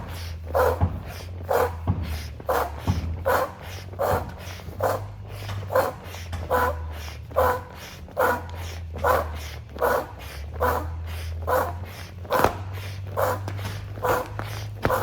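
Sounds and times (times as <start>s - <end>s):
foot pump puffing air: 0.0s - 15.0s.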